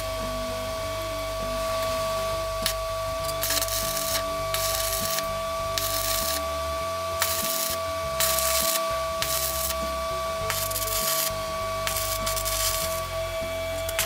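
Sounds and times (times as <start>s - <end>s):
steady whine: 0.0s - 14.0s
welding arc crackling: 0.0s - 14.0s.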